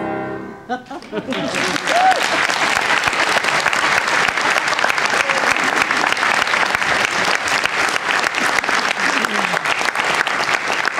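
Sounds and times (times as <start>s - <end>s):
audience applauding: 1.0s - 10.9s.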